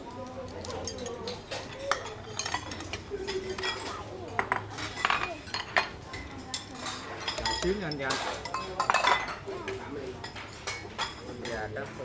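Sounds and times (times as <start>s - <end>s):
metal utensils clinking on bowls: 0.0s - 12.0s.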